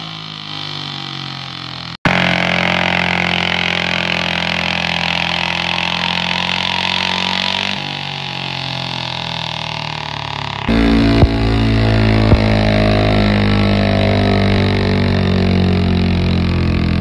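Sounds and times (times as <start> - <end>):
tractor engine at high revs: 0.0 - 17.0.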